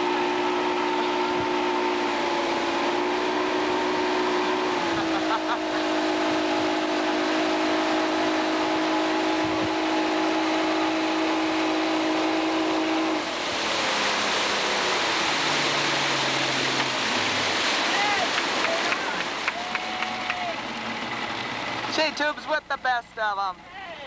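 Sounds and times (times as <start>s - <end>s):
motorboat engine running: 0.0s - 24.0s
rushing water: 0.0s - 24.0s
wind: 0.0s - 24.0s.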